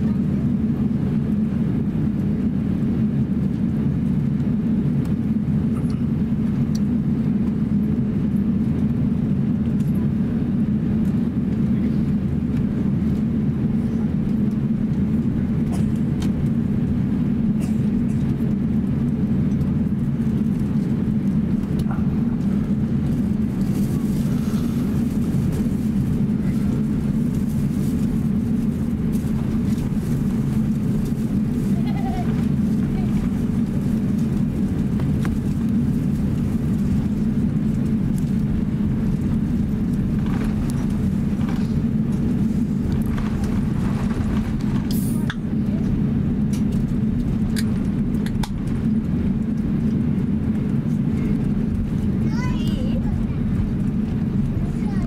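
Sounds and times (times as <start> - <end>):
aircraft cabin engine hum: 0.0 - 55.0.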